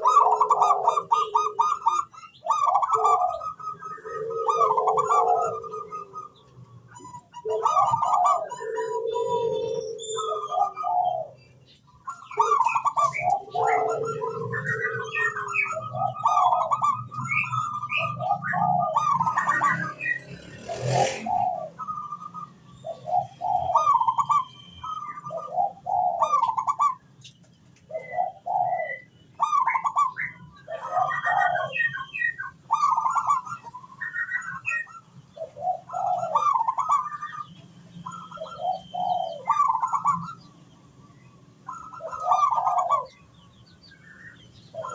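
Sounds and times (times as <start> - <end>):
dove cooing: 0.0 - 27.1, 27.8 - 40.6, 41.6 - 44.9
small birds chirping: 0.0 - 44.9.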